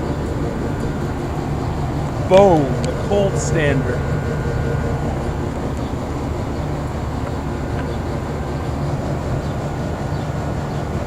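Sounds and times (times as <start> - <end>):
compressor hum: 0.0 - 11.0
condenser fans rushing: 0.0 - 11.0.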